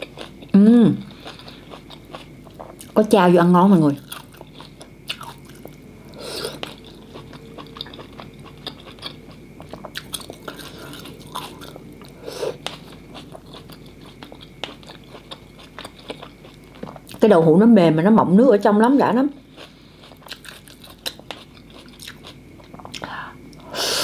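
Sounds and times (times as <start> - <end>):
person chewing wetly: 1.1 - 3.0, 4.0 - 17.2, 19.5 - 23.6.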